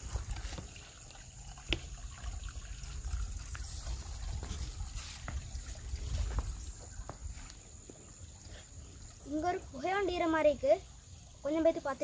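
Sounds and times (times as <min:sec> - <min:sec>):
faint water trickle over stones: 0:00.0 - 0:12.0.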